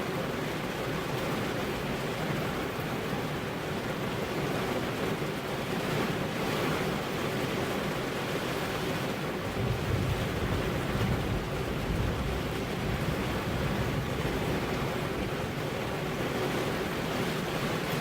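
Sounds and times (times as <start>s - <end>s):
heavy rain on a car: 0.0s - 18.0s.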